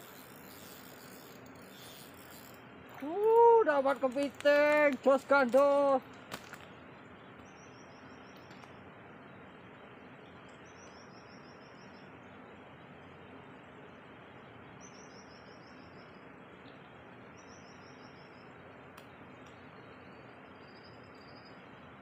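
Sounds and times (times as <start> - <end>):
songbird singing: 0.0 - 12.8, 14.4 - 21.9
steady outdoor hiss: 0.0 - 22.0.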